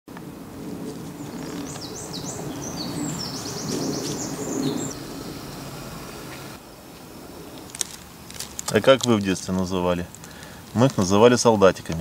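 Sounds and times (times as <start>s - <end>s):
low background rush: 0.1s - 12.0s
songbird singing: 0.1s - 12.0s.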